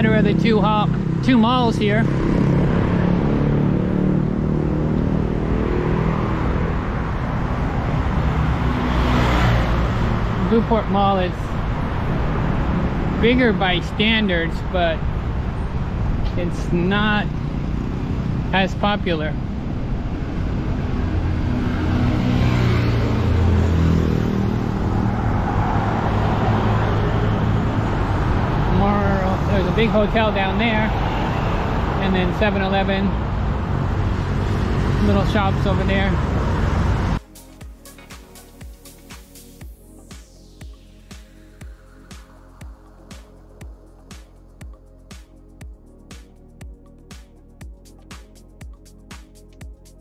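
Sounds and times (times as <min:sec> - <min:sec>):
tyre and road noise: 0:00.0 - 0:50.0
vehicle engines running: 0:00.0 - 0:50.0.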